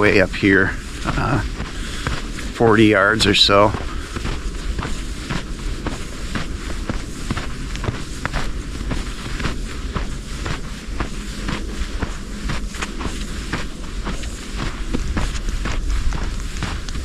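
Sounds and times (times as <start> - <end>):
footsteps crunching in snow: 0.0 - 17.0
wind buffeting microphone: 0.0 - 17.0.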